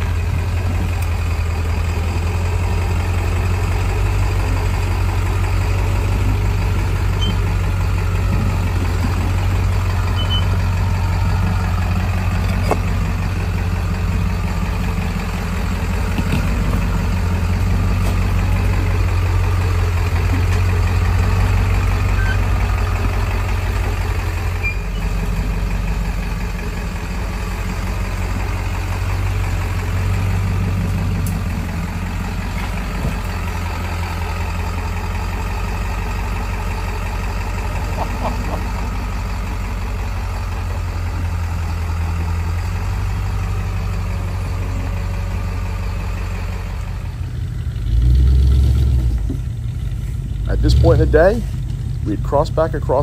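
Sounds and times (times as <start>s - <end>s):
truck engine running low revs: 0.0s - 53.0s.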